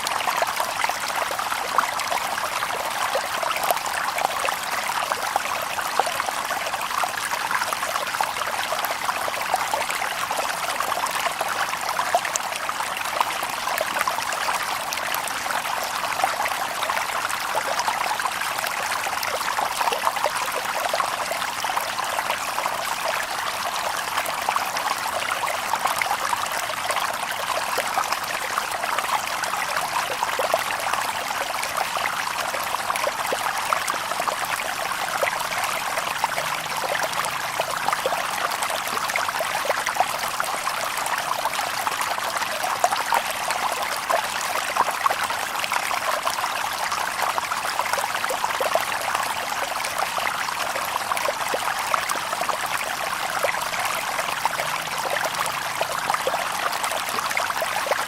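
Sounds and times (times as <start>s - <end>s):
water babbling over stones: 0.0s - 58.0s.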